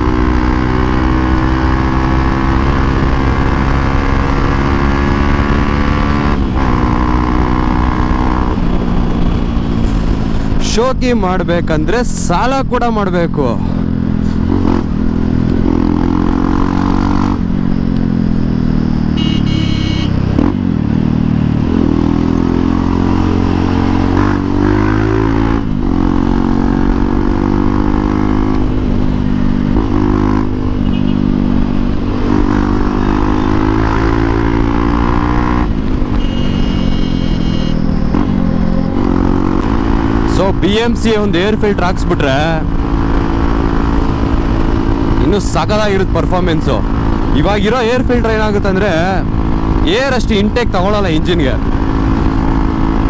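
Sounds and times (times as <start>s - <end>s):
motorcycle engine revving while riding: 0.0s - 12.8s, 13.7s - 53.0s.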